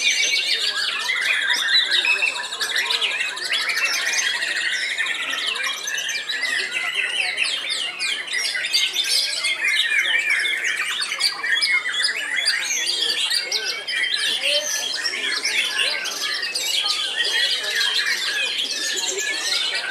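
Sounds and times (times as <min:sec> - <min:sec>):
birds singing in chorus: 0:00.0 - 0:19.9.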